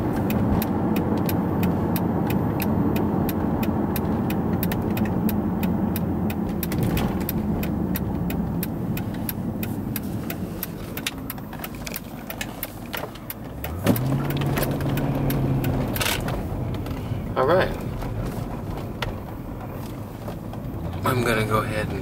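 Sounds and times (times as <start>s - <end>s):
car engine drone inside cabin: 0.0s - 22.0s.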